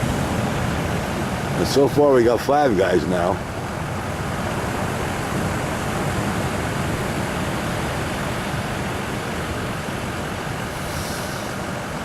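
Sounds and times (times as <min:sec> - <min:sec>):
ocean surf roaring: 0:00.0 - 0:12.0.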